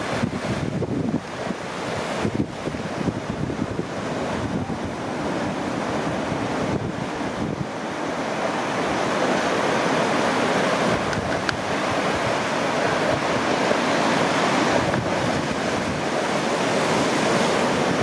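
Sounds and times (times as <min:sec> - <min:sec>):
sea surf rushing: 0:00.0 - 0:18.0
wind blowing on microphone: 0:00.0 - 0:18.0.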